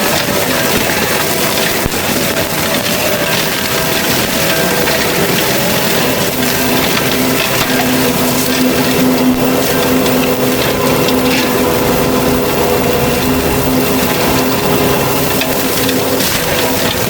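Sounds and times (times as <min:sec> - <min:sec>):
forestry mulcher droning: 0:00.0 - 0:17.0
wood cracking: 0:00.0 - 0:17.0.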